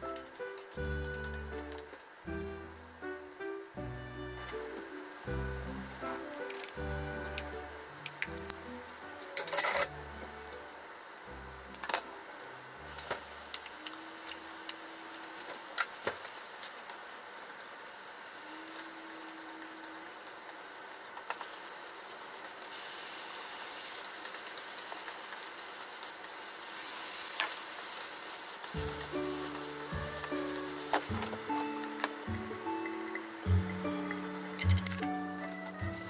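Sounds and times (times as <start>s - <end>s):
noodles sizzling in a frying pan: 0.1s - 36.0s.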